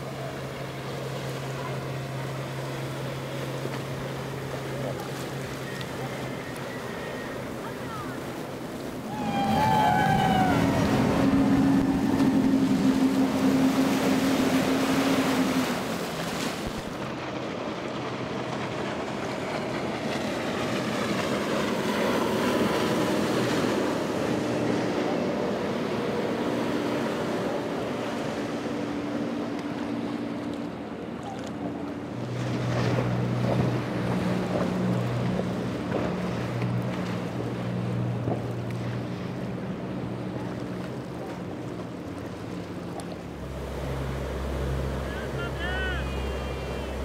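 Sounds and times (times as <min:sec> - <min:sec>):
boat engines running: 0:00.0 - 0:47.0
rush of wake water: 0:00.0 - 0:47.0.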